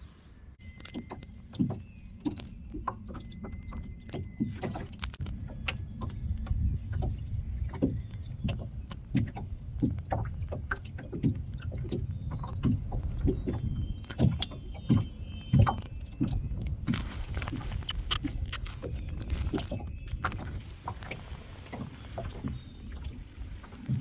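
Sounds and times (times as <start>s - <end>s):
steady low rumble: 0.0s - 24.0s
water sloshing around a boat: 0.1s - 24.0s.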